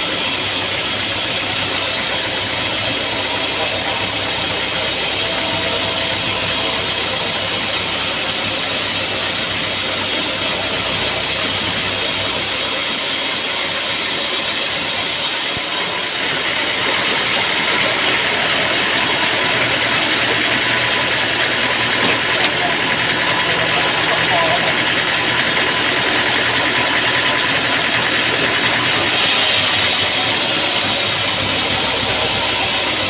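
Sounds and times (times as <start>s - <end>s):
sawmill machinery running: 0.0s - 33.0s.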